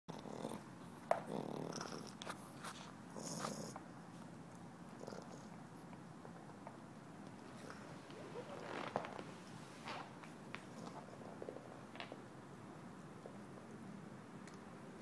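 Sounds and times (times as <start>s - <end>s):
puppy breathing and chewing: 0.1s - 12.2s.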